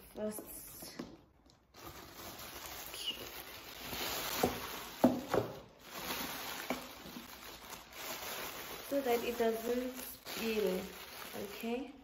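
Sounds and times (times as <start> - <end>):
plastic bag crinkling: 1.4 - 12.0.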